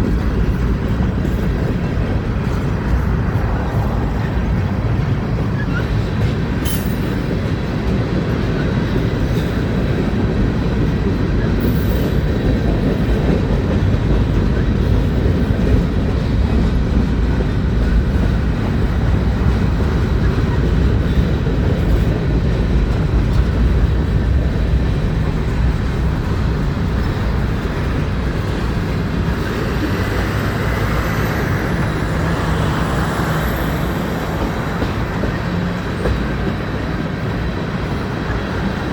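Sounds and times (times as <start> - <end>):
freight train wheels rumbling on rail: 0.0 - 38.9.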